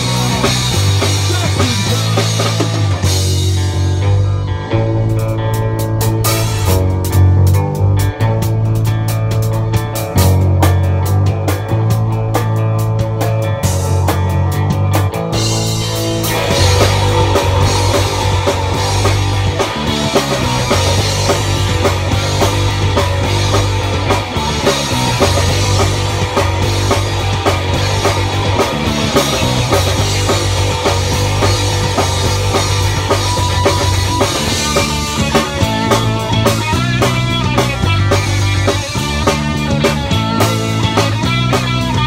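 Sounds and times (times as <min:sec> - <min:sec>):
drum kit: 0:00.0 - 0:42.0
electric guitar: 0:00.0 - 0:42.0
steady bass line: 0:00.0 - 0:42.0.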